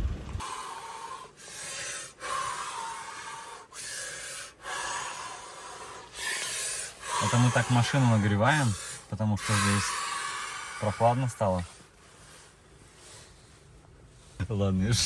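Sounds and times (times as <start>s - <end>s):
man breathing forcefully: 0.4s - 14.4s.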